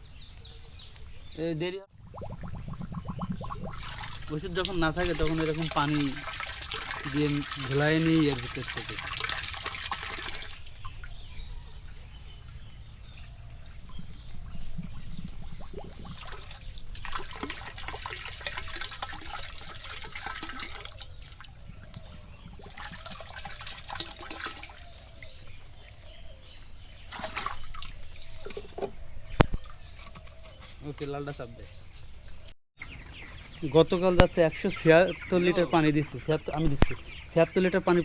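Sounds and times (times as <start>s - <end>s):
water sloshing in a container: 1.9s - 31.2s, 32.8s - 38.0s.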